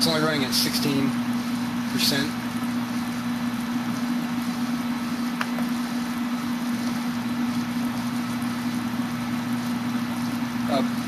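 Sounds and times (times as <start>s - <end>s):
electrical hum: 0.0s - 11.0s
gas bubbling hiss: 0.0s - 11.0s.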